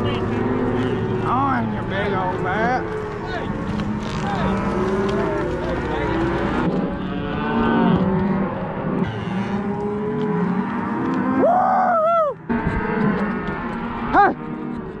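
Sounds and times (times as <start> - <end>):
cows mooing and bawling: 0.0 - 15.0.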